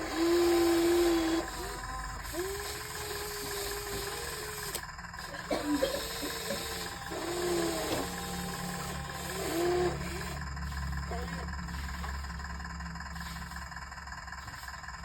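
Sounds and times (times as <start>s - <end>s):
small electric motors whining: 0.0s - 15.0s
steady low hum: 0.0s - 15.0s.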